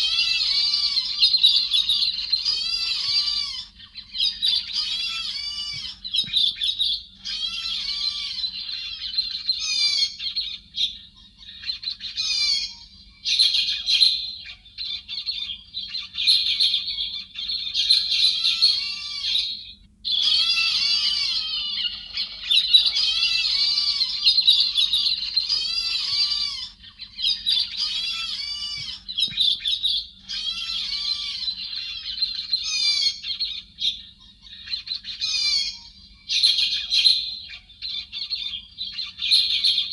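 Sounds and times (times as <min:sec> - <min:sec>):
faint low hum: 0:00.0 - 0:39.9
thrush chattering calls: 0:00.0 - 0:39.9.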